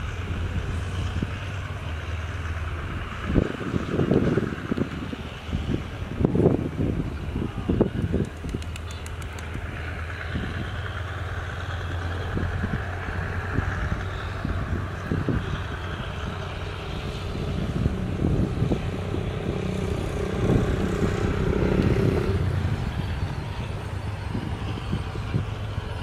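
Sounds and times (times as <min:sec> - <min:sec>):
diesel engine drone: 0:00.0 - 0:26.0
train running rumbles: 0:00.0 - 0:26.0.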